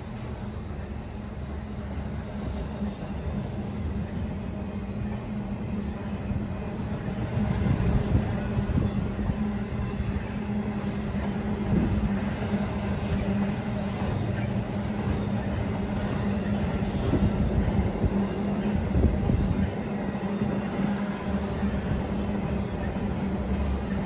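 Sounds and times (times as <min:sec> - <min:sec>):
constant hum: 0:00.0 - 0:24.0
freight train wheels rumbling: 0:00.0 - 0:24.0.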